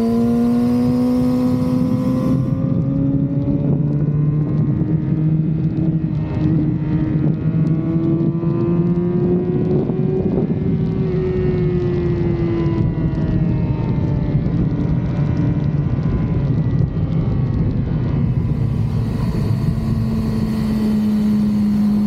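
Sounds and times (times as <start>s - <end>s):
motorcycle engine cruising: 0.0s - 22.0s
wind noise: 0.0s - 22.0s.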